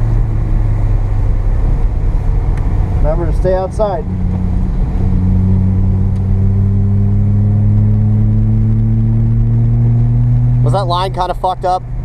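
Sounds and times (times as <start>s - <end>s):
rotary engine revving: 0.0s - 11.0s.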